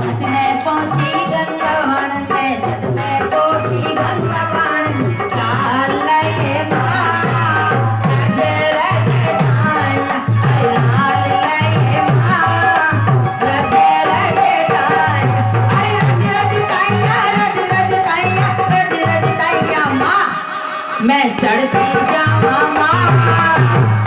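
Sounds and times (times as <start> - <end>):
rattle percussion: 0.0 - 24.0.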